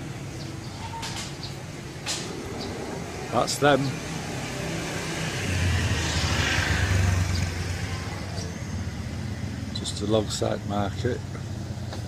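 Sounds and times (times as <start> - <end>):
background traffic hum: 0.0 - 12.0
vehicle passing by: 1.6 - 12.0.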